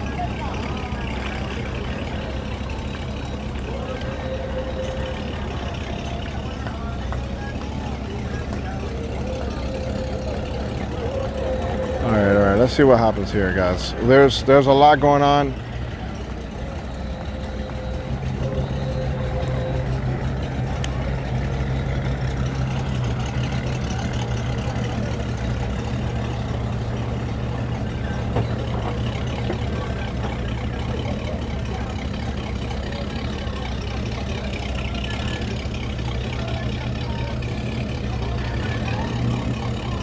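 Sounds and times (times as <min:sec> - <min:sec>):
engine idling: 0:00.0 - 0:40.0.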